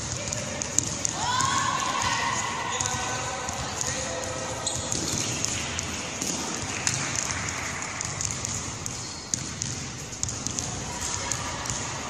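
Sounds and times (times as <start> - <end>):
ball bouncing and caught: 0.0 - 12.0
players' footsteps: 0.0 - 12.0
sports hall hubbub: 0.0 - 12.0.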